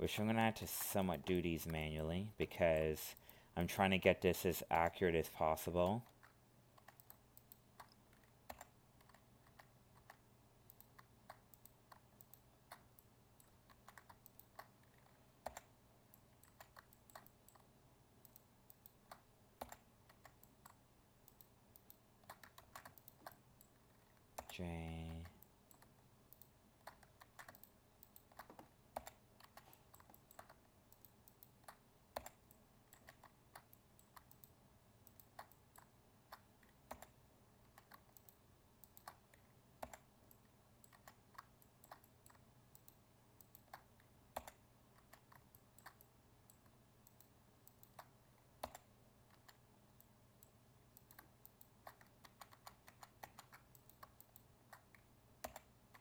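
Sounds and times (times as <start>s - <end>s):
keyboard and mouse clicking: 5.4s - 56.0s.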